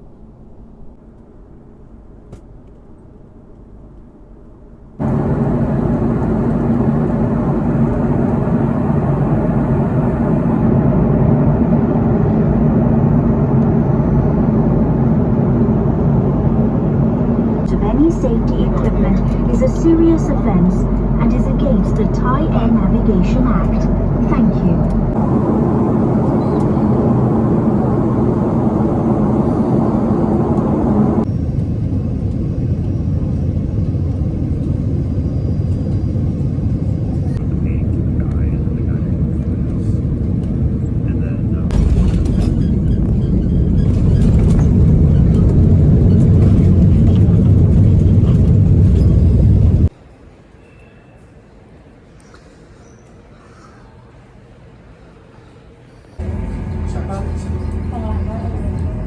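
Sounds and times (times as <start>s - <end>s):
jet airliner cabin drone: 0.0s - 49.9s, 53.4s - 59.0s
low hum: 0.0s - 49.9s, 56.2s - 59.0s.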